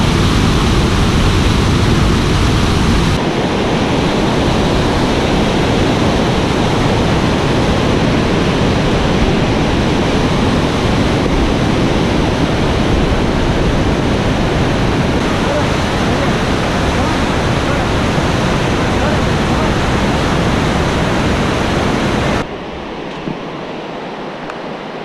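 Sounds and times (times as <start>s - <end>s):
river rushing over rapids: 0.0s - 25.0s.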